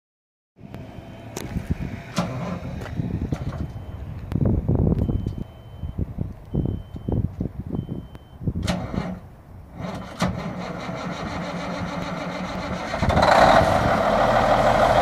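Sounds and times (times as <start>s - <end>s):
diesel engine cranking: 0.6s - 15.0s
diesel engine running: 0.6s - 15.0s.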